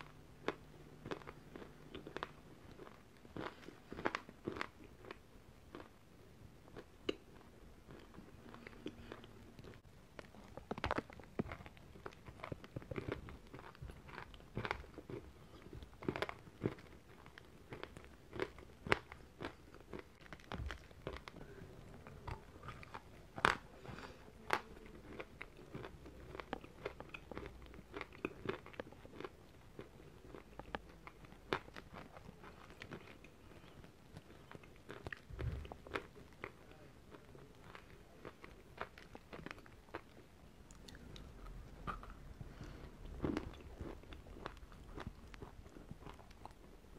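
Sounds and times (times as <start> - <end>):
person chewing crunchy chalk: 0.0 - 46.9.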